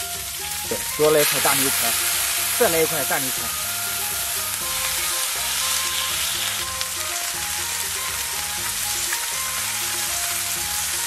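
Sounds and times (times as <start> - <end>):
light background music: 0.0 - 11.0
meat sizzling on a griddle: 0.0 - 11.0.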